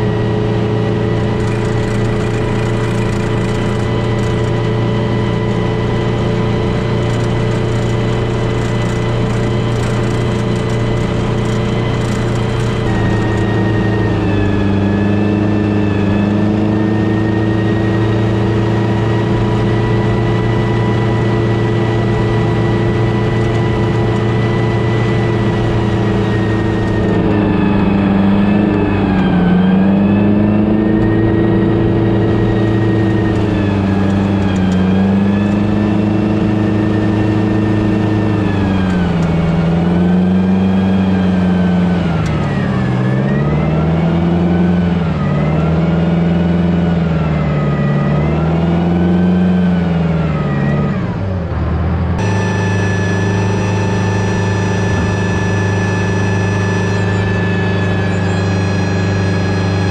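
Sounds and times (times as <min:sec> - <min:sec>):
tracked vehicle diesel engine: 0:00.0 - 0:59.9.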